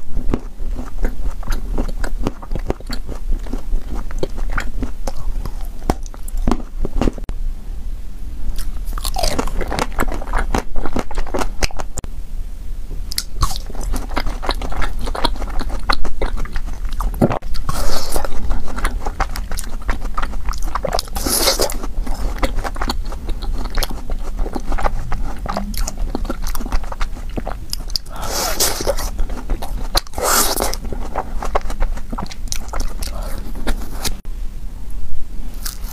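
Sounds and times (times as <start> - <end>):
crunching frozen ice cream: 0.0 - 7.2, 8.6 - 12.0, 13.1 - 34.2, 35.6 - 35.9
wet chewing: 0.0 - 7.3, 8.6 - 12.0, 13.1 - 34.2.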